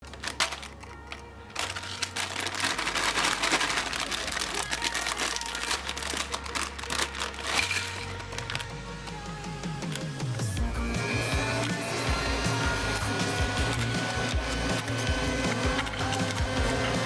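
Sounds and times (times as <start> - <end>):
meat grinder crunching chips: 0.0 - 17.0.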